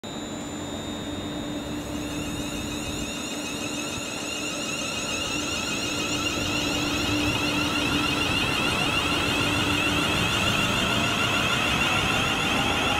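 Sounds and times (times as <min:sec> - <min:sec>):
train hum with high whine: 0:00.0 - 0:12.9.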